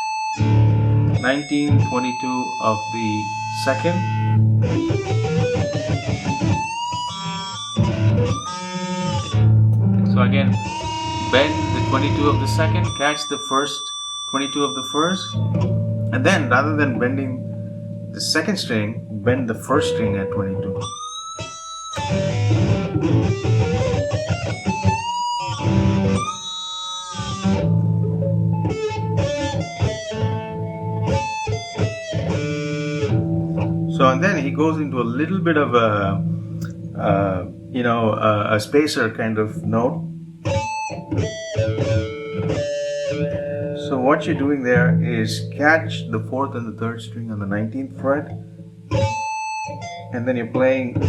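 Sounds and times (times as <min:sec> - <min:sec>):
electric guitar lead line: 0:00.0 - 0:51.0.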